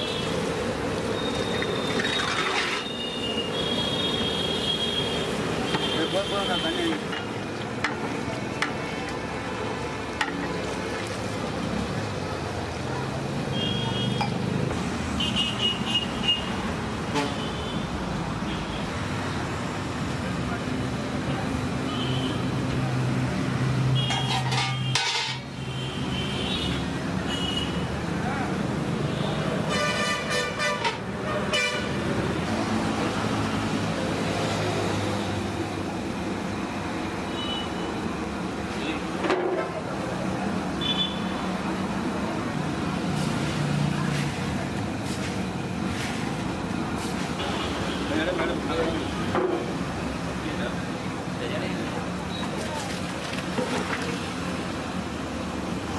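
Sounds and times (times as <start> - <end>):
traffic noise: 0.0 - 55.9.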